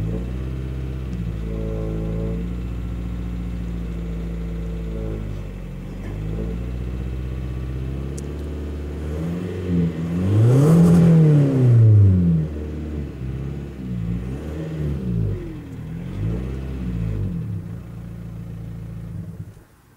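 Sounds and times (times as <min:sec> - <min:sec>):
diesel car engine idling and revving: 0:00.0 - 0:19.8.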